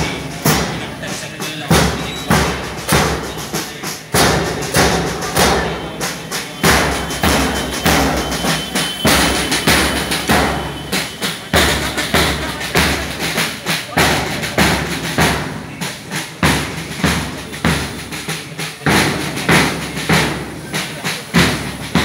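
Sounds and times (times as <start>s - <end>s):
bass drum striking: 0.0s - 18.2s
marching band drums: 0.0s - 22.0s.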